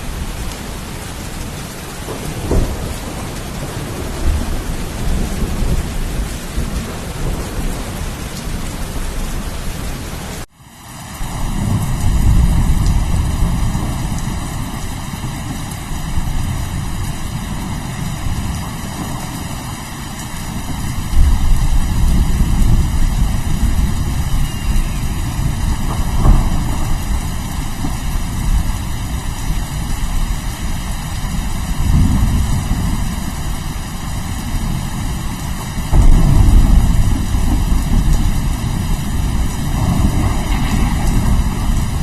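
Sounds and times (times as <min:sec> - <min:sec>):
rolling thunder: 0:00.0 - 0:09.8, 0:11.2 - 0:42.0
steady rain: 0:00.0 - 0:42.0.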